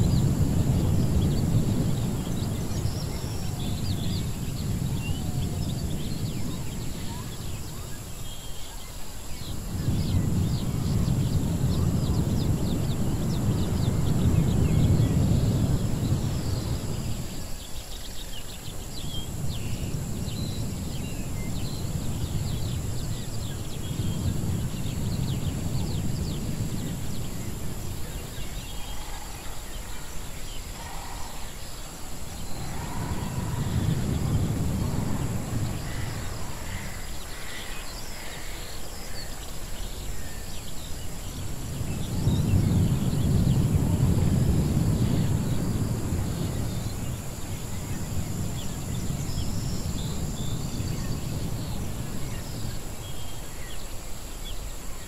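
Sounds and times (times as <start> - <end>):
low rumbling wash: 0.0 - 55.0.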